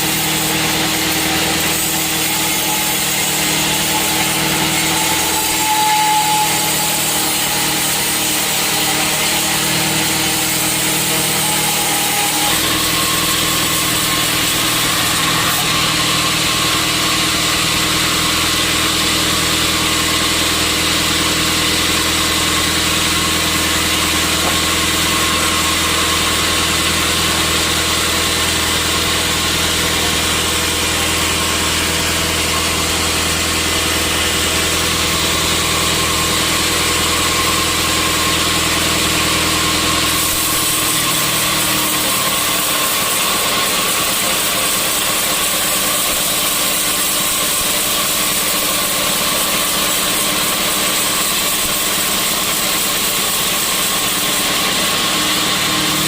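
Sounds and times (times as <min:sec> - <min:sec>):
sawmill machinery humming and hissing: 0:00.0 - 0:56.0.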